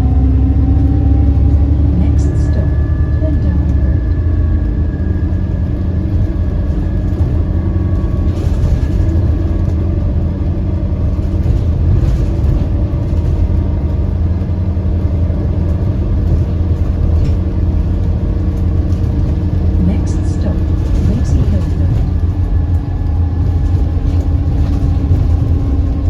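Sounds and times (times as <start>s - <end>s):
bus engine hum: 0.0s - 26.0s.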